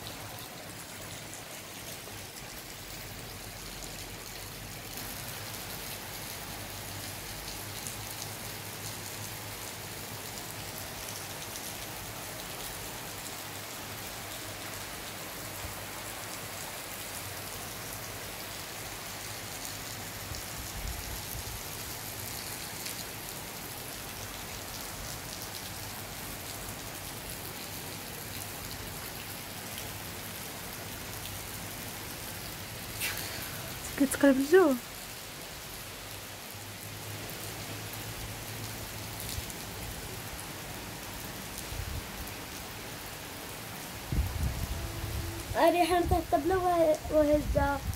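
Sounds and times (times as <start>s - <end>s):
rain on wet surfaces: 0.0s - 47.9s.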